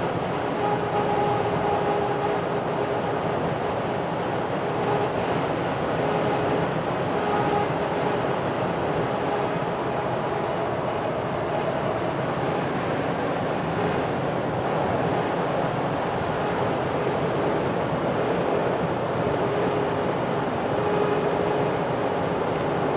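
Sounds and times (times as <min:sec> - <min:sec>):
road noise: 0:00.0 - 0:22.9
wind noise inside car cabin: 0:00.0 - 0:22.9.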